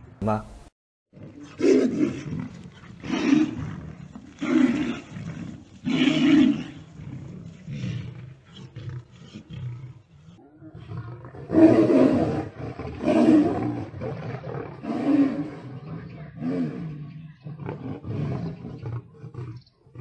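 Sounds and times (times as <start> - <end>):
big cats roaring and snarling: 1.1 - 20.0.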